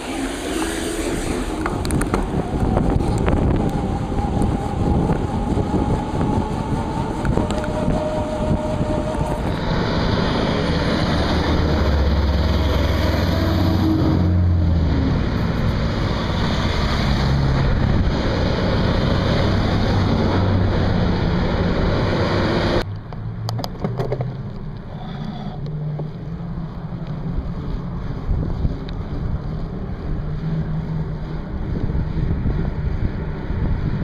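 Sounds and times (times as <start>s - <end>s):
wind buffeting microphone: 0.0s - 22.9s, 26.1s - 34.0s
fire engine rumble: 0.0s - 34.0s.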